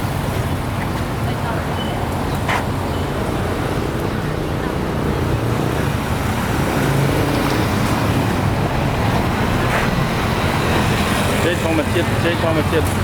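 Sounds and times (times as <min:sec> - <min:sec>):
engines running close by: 0:00.0 - 0:13.0
street traffic noise: 0:00.0 - 0:13.0.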